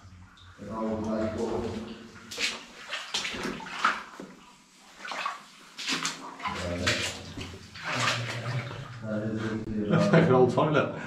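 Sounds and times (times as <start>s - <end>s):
water sloshing and splashing: 0.0s - 9.7s.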